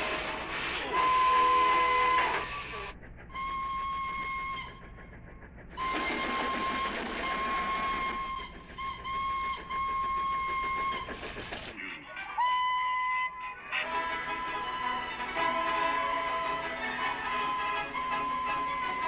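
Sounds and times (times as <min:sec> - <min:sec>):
steam whistle blasts: 0:00.0 - 0:04.9, 0:05.8 - 0:11.2, 0:12.4 - 0:19.0.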